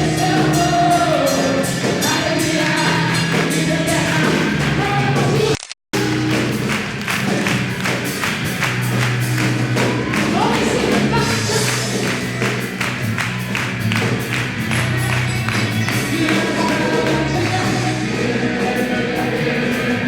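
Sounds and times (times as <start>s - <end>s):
live gospel music: 0.0s - 20.0s.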